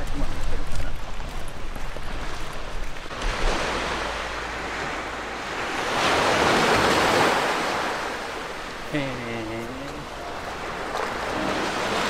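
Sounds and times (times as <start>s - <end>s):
small waves washing onto beach: 0.0s - 12.0s.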